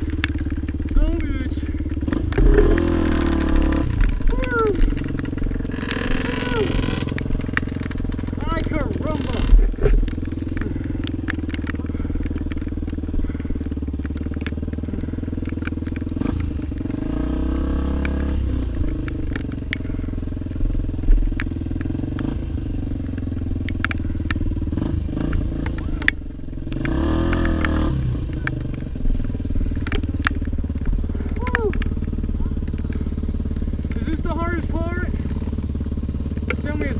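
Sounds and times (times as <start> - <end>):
stones clicking and rattles: 0.0 - 17.1, 20.6 - 34.1
off-road vehicle engine: 0.0 - 36.9.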